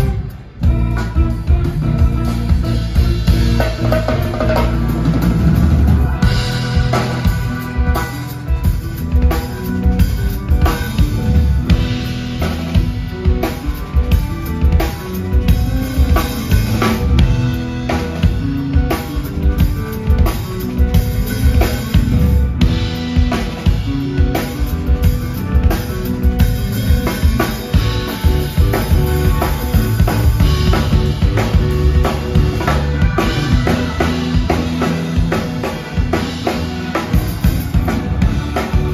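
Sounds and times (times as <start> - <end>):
drum kit beat: 0.0 - 38.9
live rock band playing: 0.0 - 38.9.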